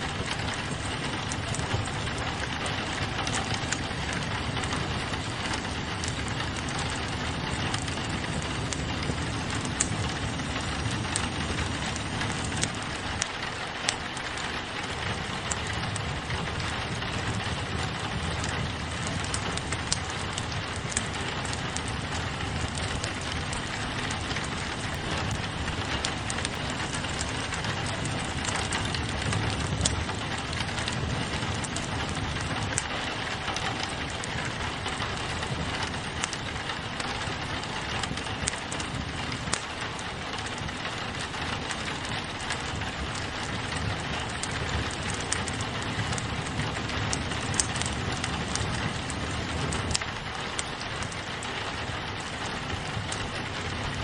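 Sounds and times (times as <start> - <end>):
fireplace crackling: 0.0 - 54.0
rain on a window: 0.0 - 54.0.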